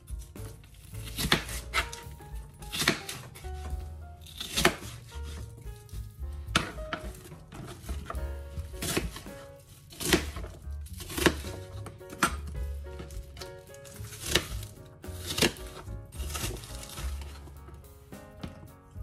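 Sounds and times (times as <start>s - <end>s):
background music with bass: 0.0s - 19.0s
knife chopping on cutting board: 0.2s - 17.8s.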